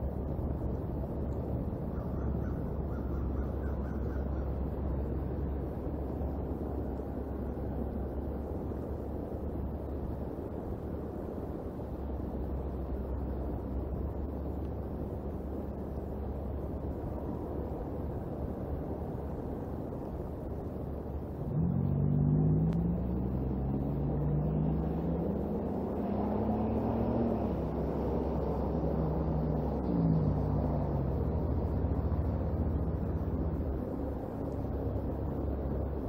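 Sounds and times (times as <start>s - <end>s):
engine drone: 0.0s - 36.0s
low outdoor rumble: 0.0s - 36.0s.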